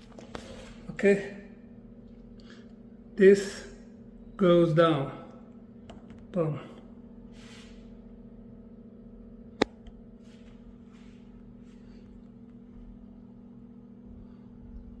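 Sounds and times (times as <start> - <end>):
low hum: 1.0 - 15.0.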